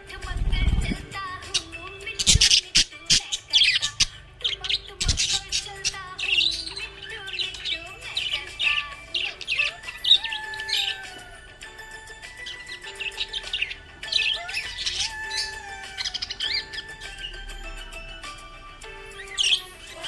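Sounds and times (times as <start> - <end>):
budgerigar chirping and squawking: 0.1 - 17.6, 19.1 - 20.0.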